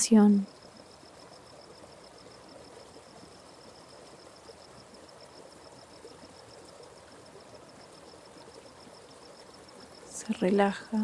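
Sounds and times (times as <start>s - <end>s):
insect trilling: 0.0s - 11.0s
stream burbling: 0.0s - 11.0s.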